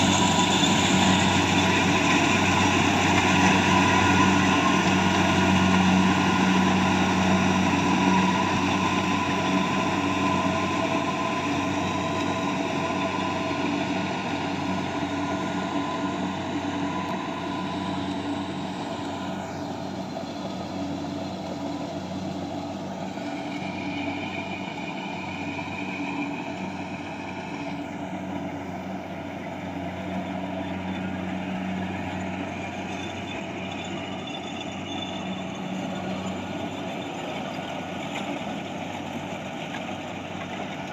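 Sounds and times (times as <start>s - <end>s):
harvester engine humming: 0.0s - 40.9s.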